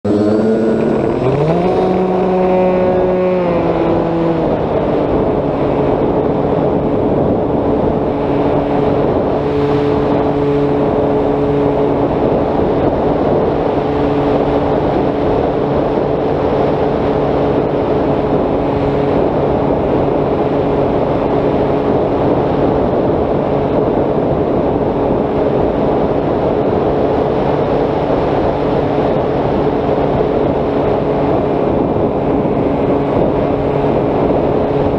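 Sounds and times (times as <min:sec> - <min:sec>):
wind rushing over airframe: 0:00.0 - 0:34.9
electric motor and propeller whine: 0:00.1 - 0:34.9.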